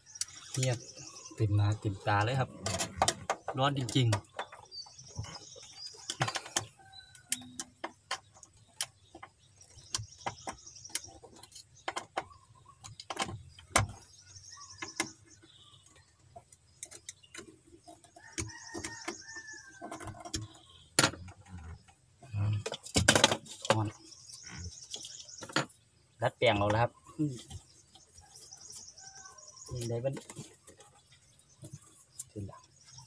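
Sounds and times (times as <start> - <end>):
birds chirping faintly: 0.0 - 33.0.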